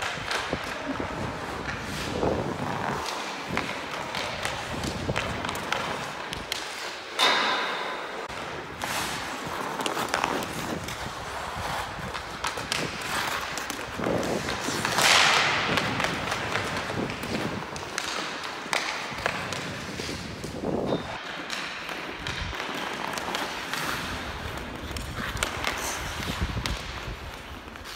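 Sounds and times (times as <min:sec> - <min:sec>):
hockey stick tapping puck: 0:00.0 - 0:27.9
skates scraping on ice: 0:00.0 - 0:27.9.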